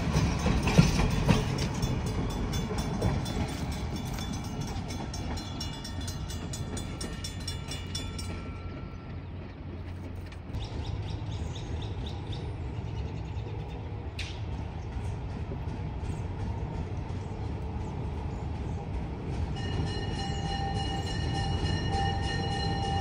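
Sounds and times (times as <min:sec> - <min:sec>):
diesel locomotive rumble: 0:00.0 - 0:23.0.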